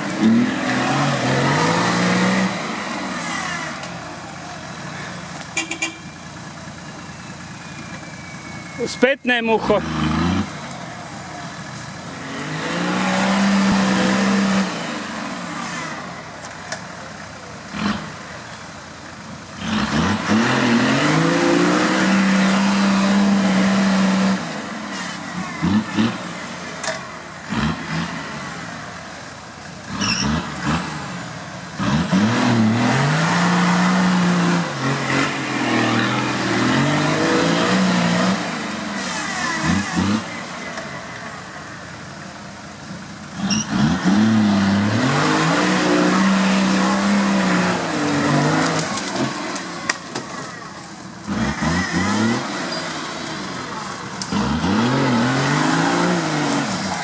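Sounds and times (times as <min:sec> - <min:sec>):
off-road engine revving: 0:00.0 - 0:57.0.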